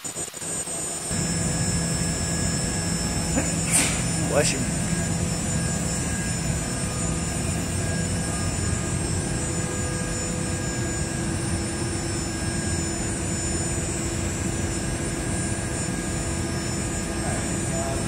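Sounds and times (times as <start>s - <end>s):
industrial machinery drone: 0.0s - 18.0s.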